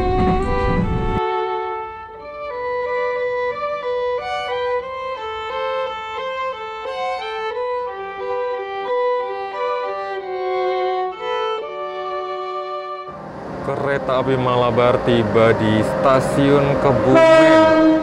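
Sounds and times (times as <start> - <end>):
solo violin melody: 0.0 - 18.0.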